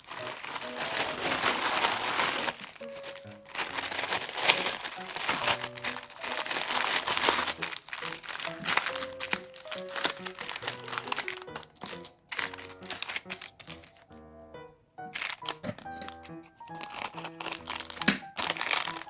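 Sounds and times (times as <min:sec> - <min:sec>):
plastic packaging crinkling: 0:00.0 - 0:14.2, 0:15.0 - 0:19.0
plain melodic background music: 0:00.0 - 0:19.0.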